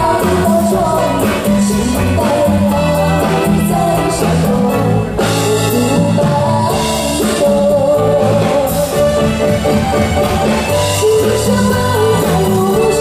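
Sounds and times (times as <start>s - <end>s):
woman singing into microphone: 0.0s - 9.8s, 10.5s - 13.0s
live band playing: 0.0s - 13.0s.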